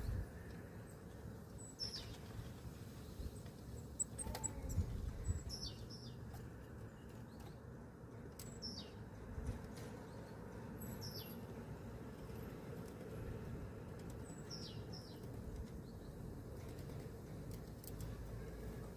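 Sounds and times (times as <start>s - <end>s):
songbirds chirping: 0.0s - 18.9s.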